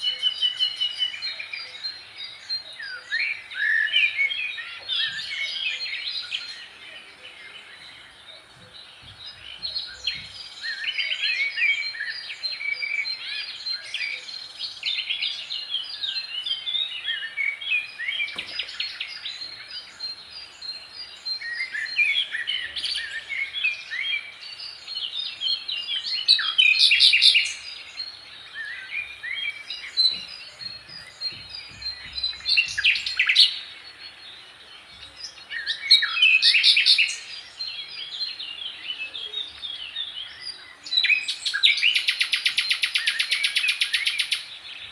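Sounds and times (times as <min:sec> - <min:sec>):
songbirds chirping and singing: 0:00.0 - 0:44.9.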